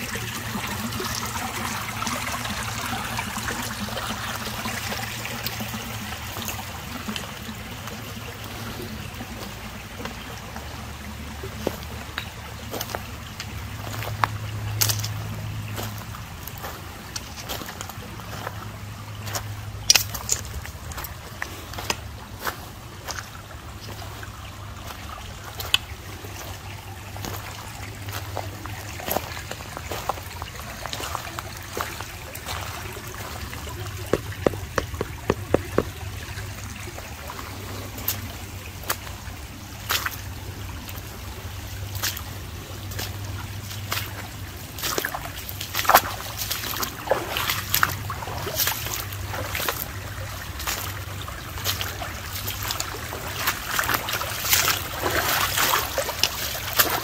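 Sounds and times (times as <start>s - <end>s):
creek water trickling: 0.0s - 57.0s
sharp clicks and small splashes: 0.1s - 57.0s.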